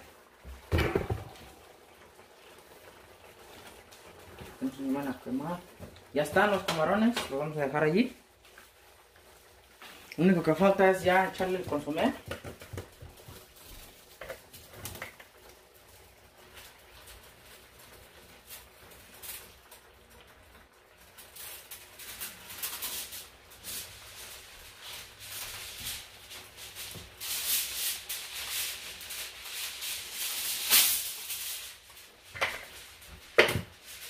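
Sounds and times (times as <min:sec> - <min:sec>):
rattling hiss from pot: 0:00.0 - 0:34.0.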